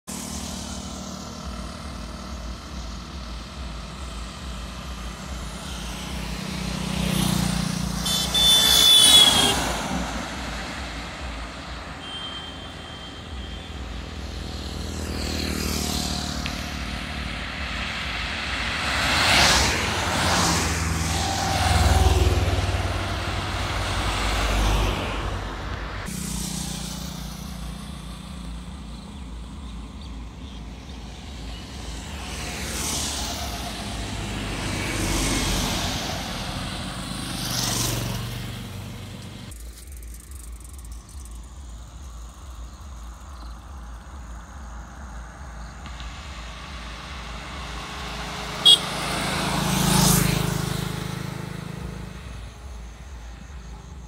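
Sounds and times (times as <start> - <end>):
vehicles passing at speed: 0.0 - 54.0.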